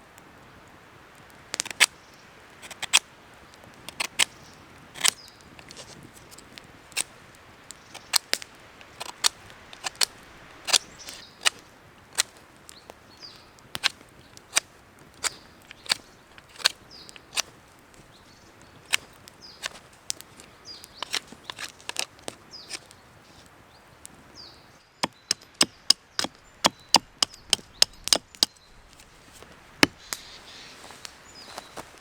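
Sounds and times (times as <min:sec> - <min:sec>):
dry wood cracking and snapping: 0:01.1 - 0:32.0.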